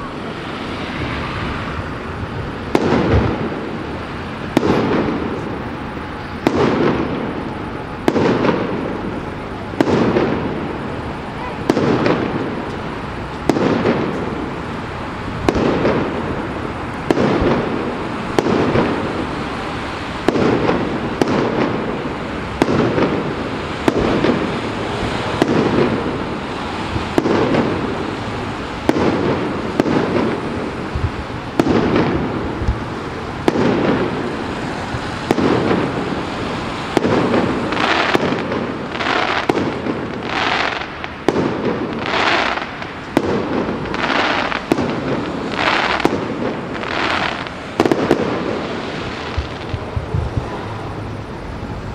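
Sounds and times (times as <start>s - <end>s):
hissing firework bursts: 0.0s - 51.9s.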